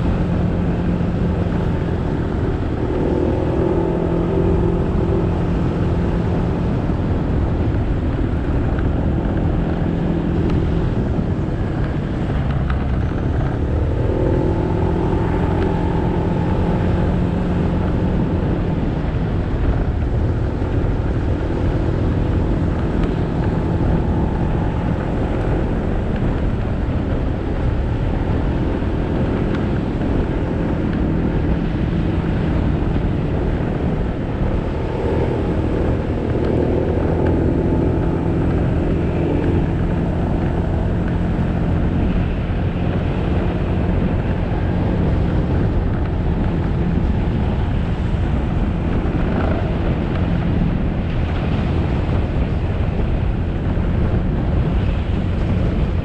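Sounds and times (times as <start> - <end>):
motorcycle engine running: 0.0 - 56.0
road noise: 0.0 - 56.0
wind noise: 0.0 - 56.0.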